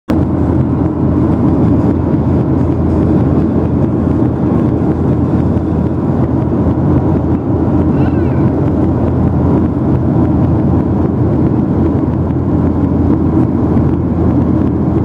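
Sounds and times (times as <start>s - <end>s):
airliner cabin engine rush: 0.1s - 15.0s.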